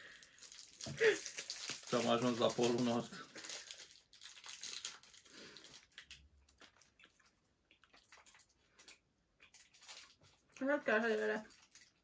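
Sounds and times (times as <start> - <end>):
foil wrapper crinkling: 0.0 - 12.0
biting and chewing: 0.5 - 10.6.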